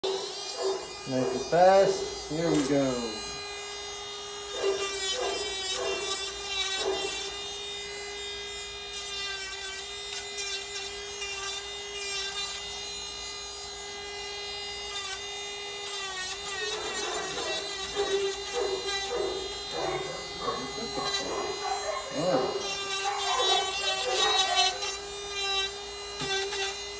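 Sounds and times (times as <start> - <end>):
electric nail grinder whining: 0.0 - 26.9
grinder rasping on toenail: 0.0 - 26.9.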